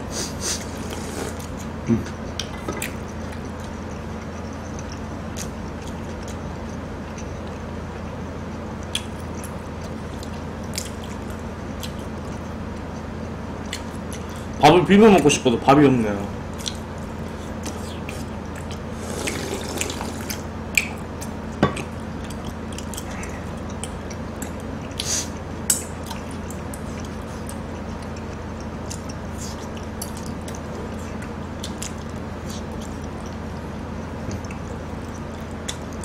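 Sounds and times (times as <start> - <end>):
steady low hum: 0.0 - 36.0
wet chewing and slurping: 0.3 - 14.6, 16.6 - 36.0.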